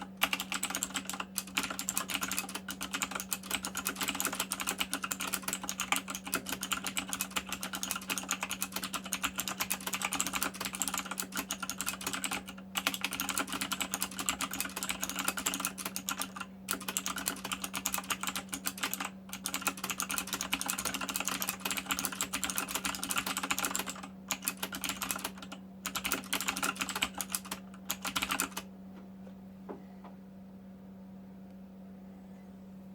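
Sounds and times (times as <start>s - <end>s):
mechanical keyboard clicking: 0.0s - 28.6s.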